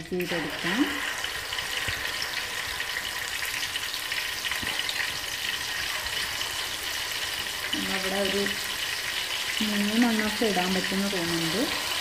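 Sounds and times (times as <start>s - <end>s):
deep-frying sizzle and crackling: 0.0s - 12.0s.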